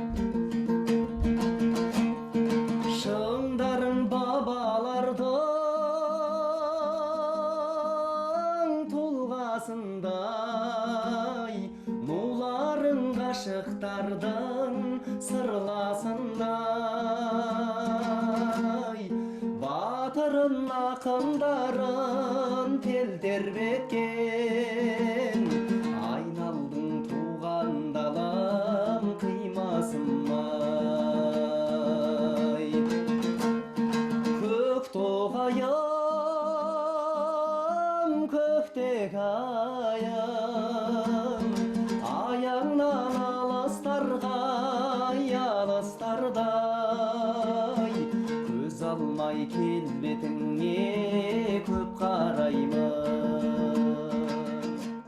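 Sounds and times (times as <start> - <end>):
person singing with vibrato: 0.0 - 55.0
plucked string accompaniment: 0.0 - 55.0.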